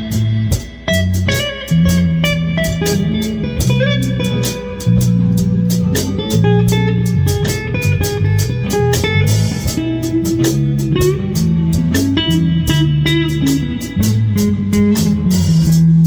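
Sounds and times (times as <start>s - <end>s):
bass guitar: 0.0s - 16.0s
drum kit beat: 0.0s - 16.0s
electric guitar: 0.0s - 16.0s.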